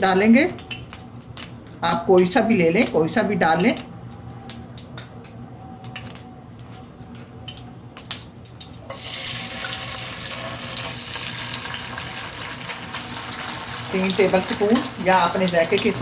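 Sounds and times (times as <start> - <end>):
frying sizzle: 0.0 - 5.1, 7.5 - 16.0.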